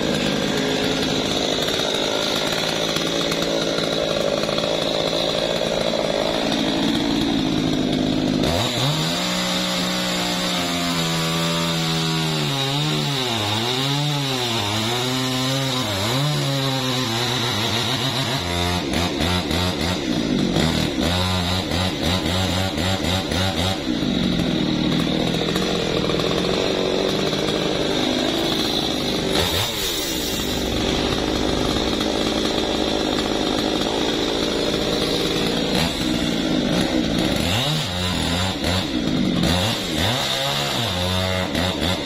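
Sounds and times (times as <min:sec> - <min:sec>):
chainsaw cutting wood: 0:00.0 - 0:42.0.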